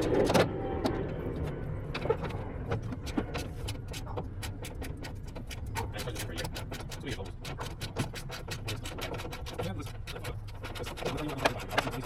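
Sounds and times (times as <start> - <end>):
vehicle rumble: 0.0 - 12.0
small clicks and taps: 1.4 - 12.0.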